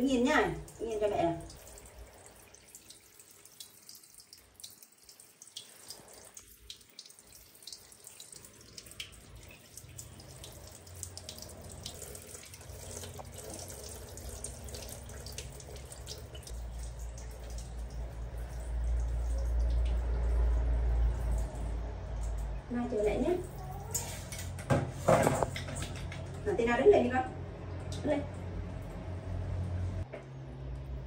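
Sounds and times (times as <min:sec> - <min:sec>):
shower spray splashing on tiles: 0:00.0 - 0:27.2.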